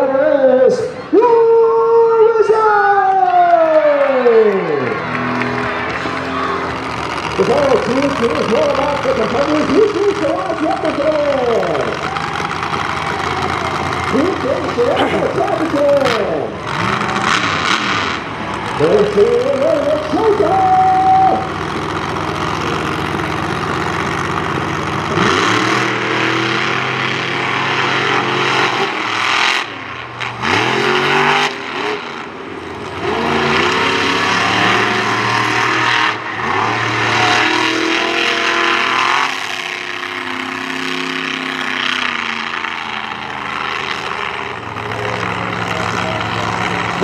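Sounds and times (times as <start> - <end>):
truck engine revving: 0.0 - 47.0.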